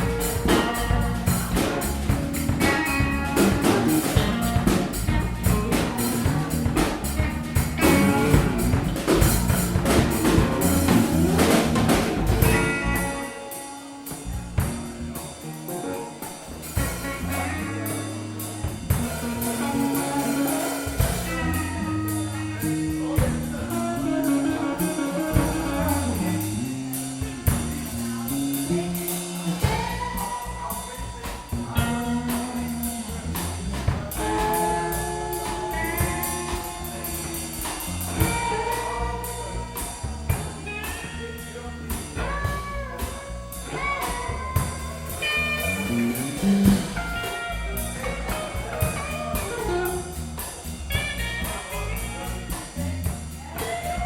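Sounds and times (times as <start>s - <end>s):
stepping bass line: 0.0s - 13.3s, 14.2s - 15.6s, 16.5s - 54.0s
drum kit: 0.0s - 54.0s
lead instrument bending melody: 0.0s - 54.0s
live band playing blues-jazz: 0.0s - 54.0s.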